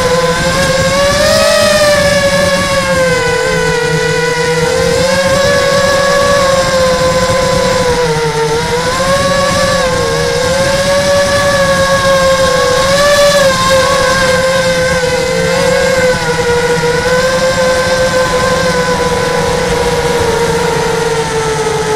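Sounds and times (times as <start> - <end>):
model aircraft motor whining: 0.0 - 21.9.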